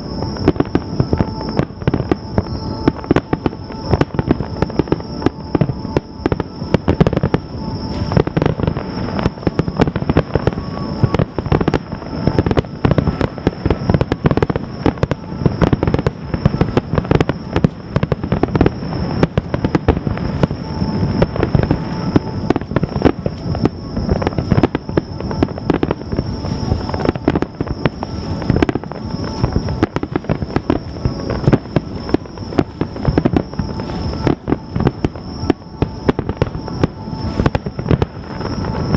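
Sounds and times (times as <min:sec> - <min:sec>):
faint high-pitched tone: 0:00.0 - 0:38.9
fireworks bursting: 0:00.0 - 0:38.9.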